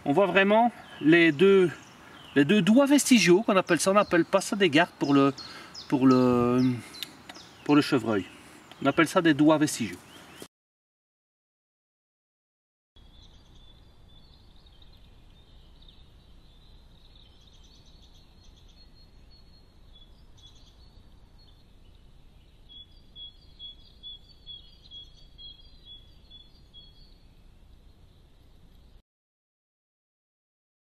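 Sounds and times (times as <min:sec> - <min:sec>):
steady low hiss: 0:00.0 - 0:10.4, 0:13.0 - 0:29.0
birds chirping: 0:00.0 - 0:10.5, 0:13.0 - 0:29.0.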